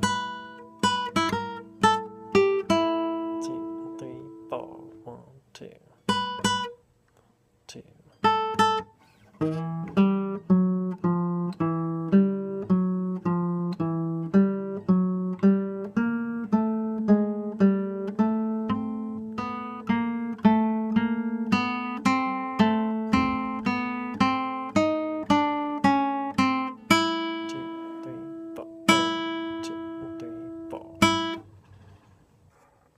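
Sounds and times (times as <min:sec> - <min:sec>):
nylon-string guitar playing swing: 0:00.0 - 0:05.3, 0:06.0 - 0:06.8, 0:08.1 - 0:32.7.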